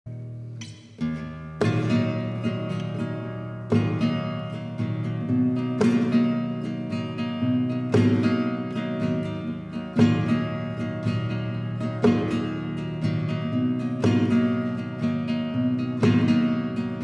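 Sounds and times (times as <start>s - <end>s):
flamenco guitar strumming: 0.1s - 17.0s.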